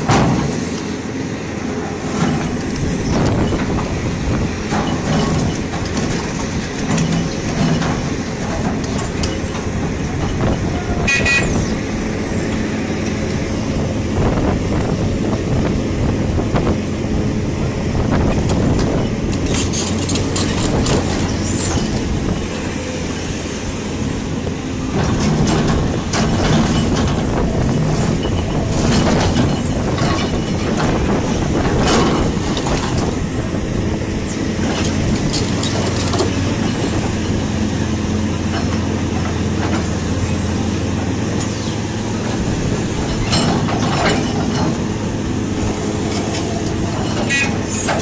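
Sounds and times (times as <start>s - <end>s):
heavy machinery rumbling and clattering: 0.0s - 48.0s.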